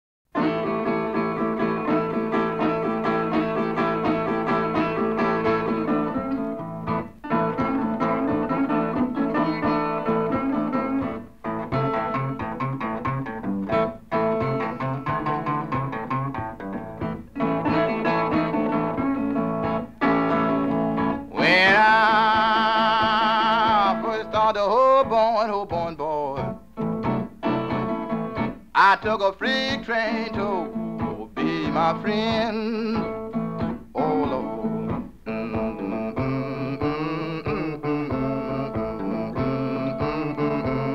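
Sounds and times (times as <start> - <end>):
acoustic blues guitar picking: 0.3 - 40.9.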